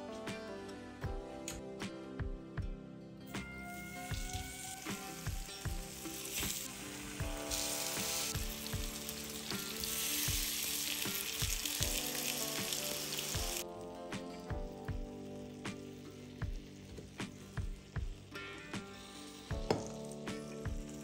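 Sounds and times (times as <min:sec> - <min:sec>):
background music with steady beat: 0:00.0 - 0:21.0
butter sizzling in frying pan: 0:03.6 - 0:21.0.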